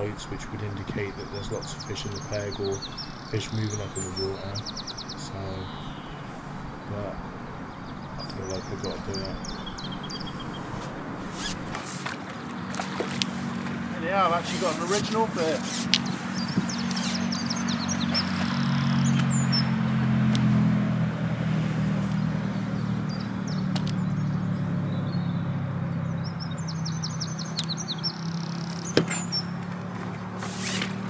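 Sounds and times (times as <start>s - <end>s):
small birds chirping: 0.0s - 20.5s, 21.6s - 31.0s.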